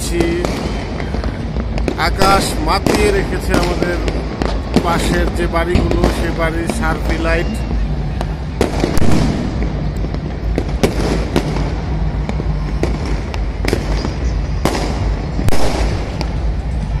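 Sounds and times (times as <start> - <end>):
continuous low rumble: 0.0 - 17.0
firework bangs: 0.0 - 17.0.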